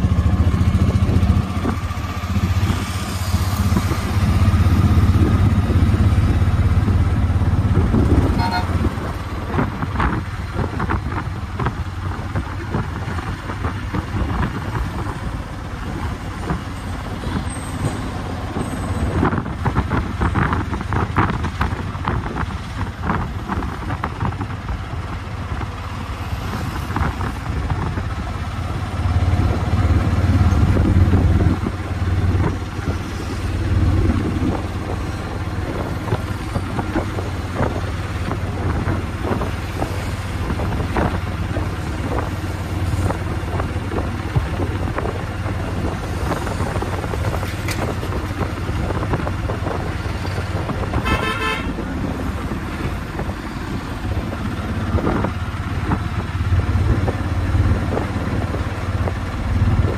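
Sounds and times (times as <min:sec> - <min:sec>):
auto-rickshaw engine running: 0:00.0 - 0:59.9
road and wind noise: 0:00.0 - 0:59.9.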